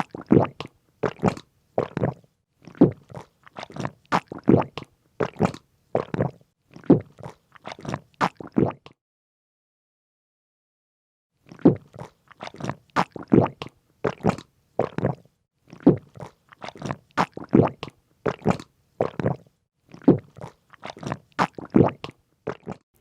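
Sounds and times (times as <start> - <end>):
person chewing crunchy food: 0.0 - 8.8, 11.5 - 23.0.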